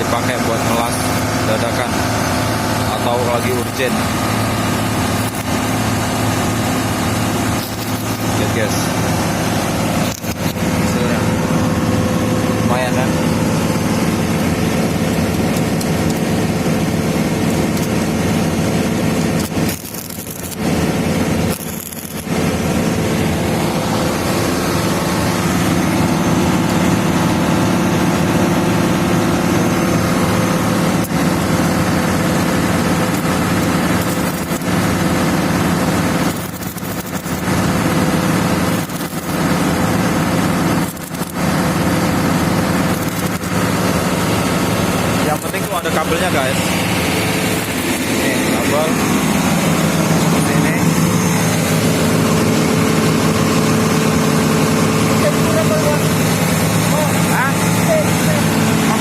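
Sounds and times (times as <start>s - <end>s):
diesel engines at high throttle: 0.0s - 59.0s.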